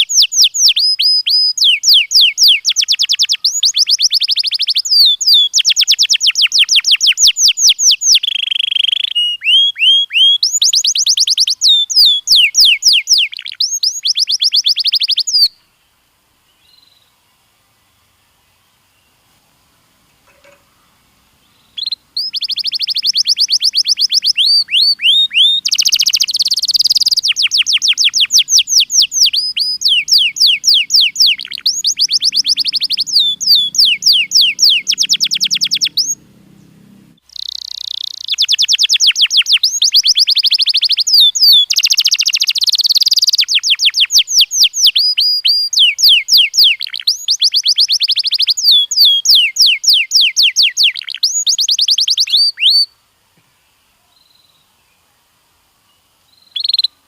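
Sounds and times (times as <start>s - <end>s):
canary singing trills: 0.0s - 15.6s, 19.8s - 52.9s, 56.3s - 57.0s.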